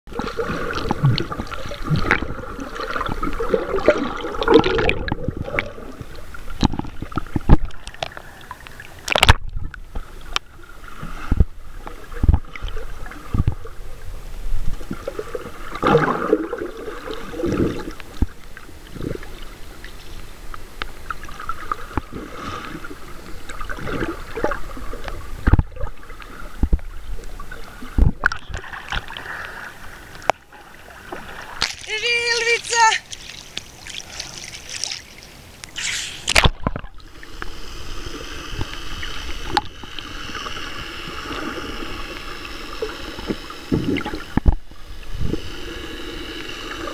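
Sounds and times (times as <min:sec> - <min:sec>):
underwater water swishing and gurgling: 0:00.1 - 0:46.9.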